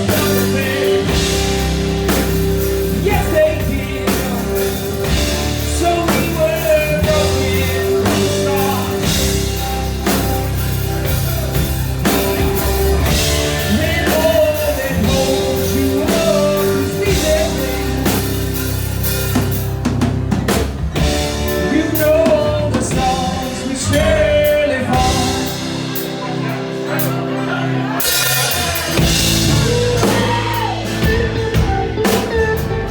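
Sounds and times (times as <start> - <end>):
person singing: 0.0 - 19.6, 21.0 - 32.9
drum kit: 0.0 - 32.9
guitar: 0.0 - 32.9.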